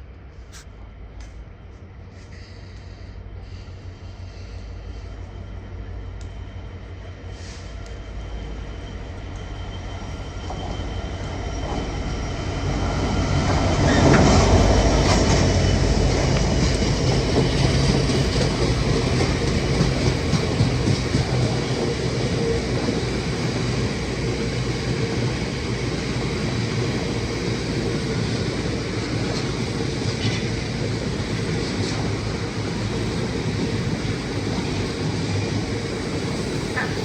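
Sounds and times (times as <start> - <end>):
train passing with low hum: 0.0 - 37.0
train wheels rumbling: 0.0 - 37.0.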